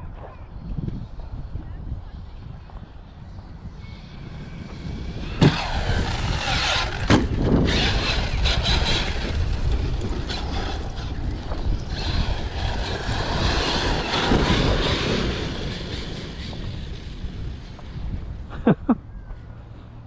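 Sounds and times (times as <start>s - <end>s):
rc truck motor and tires: 0.1s - 18.6s.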